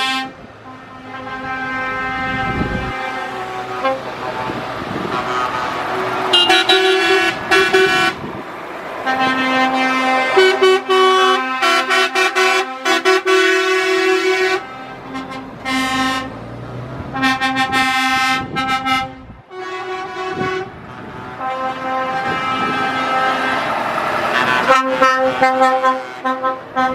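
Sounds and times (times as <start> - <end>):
truck air horn blasts: 0.0 - 8.3, 9.0 - 16.5, 17.1 - 26.9
trucks passing: 0.0 - 26.9.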